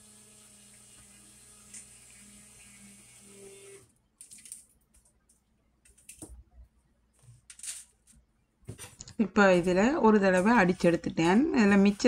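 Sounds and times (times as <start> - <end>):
faint electrical hum: 0.0 - 10.4.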